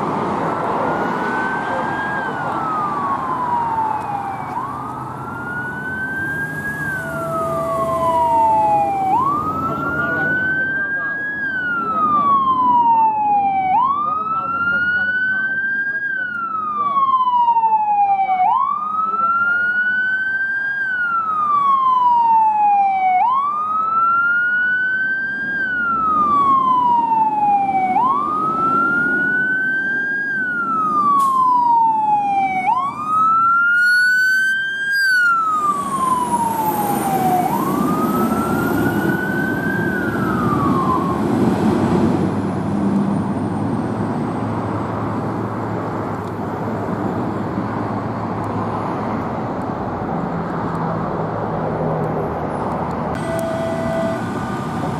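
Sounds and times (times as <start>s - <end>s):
fire engine siren wailing: 0.0s - 51.5s, 52.6s - 54.9s
engine and road noise: 0.0s - 54.9s.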